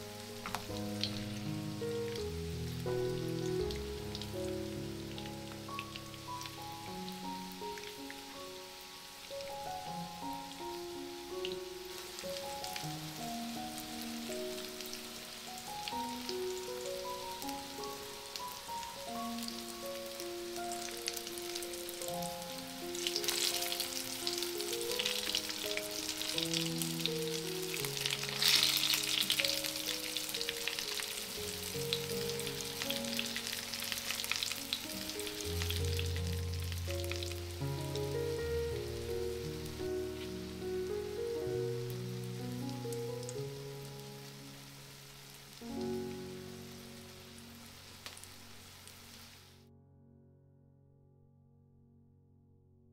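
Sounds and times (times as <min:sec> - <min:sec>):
zucchini sizzling in hot oil: 0:00.0 - 0:49.6
soft background music: 0:00.0 - 0:50.5.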